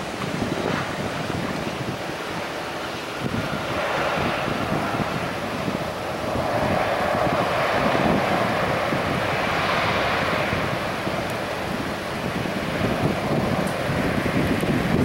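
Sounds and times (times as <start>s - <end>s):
jet blast buffeting microphone: 0.0s - 15.0s
jet engines roaring: 0.0s - 15.0s.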